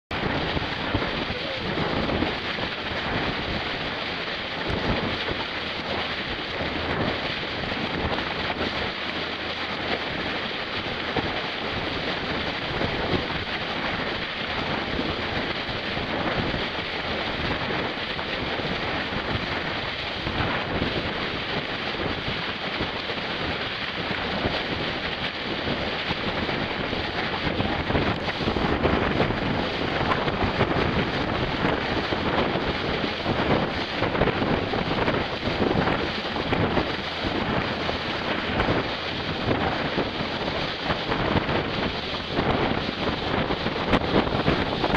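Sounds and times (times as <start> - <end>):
water rushing along boat hull: 0.1 - 44.9
wind buffeting microphone: 0.1 - 44.9.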